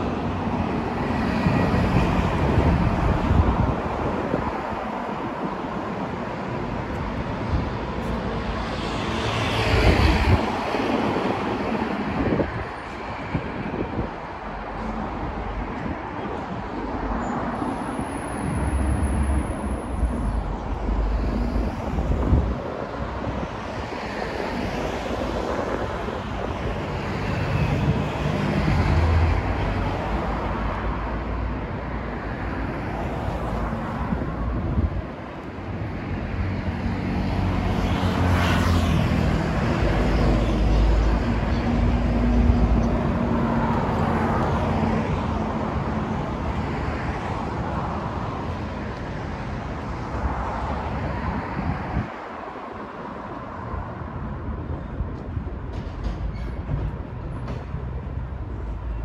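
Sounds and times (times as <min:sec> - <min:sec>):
wind buffeting microphone: 0:00.0 - 0:38.3, 0:38.9 - 0:53.2
cars and buses passing: 0:00.0 - 0:59.0.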